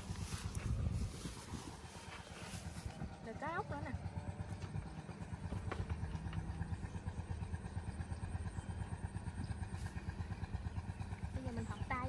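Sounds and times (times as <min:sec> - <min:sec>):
small engine puttering: 0:00.0 - 0:12.0.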